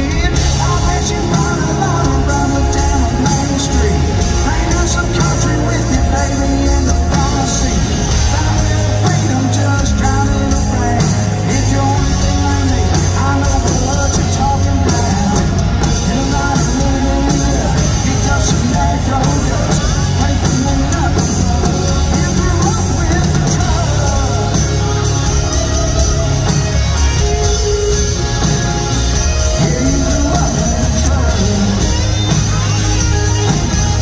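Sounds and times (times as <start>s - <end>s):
drum kit: 0.0s - 34.0s
electric guitar: 0.0s - 34.0s.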